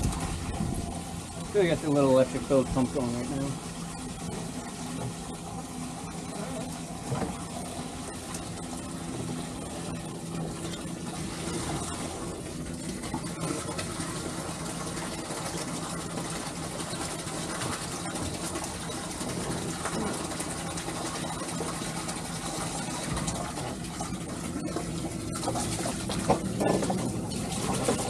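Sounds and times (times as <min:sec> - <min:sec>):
small gasoline engine running: 0:00.0 - 0:28.0.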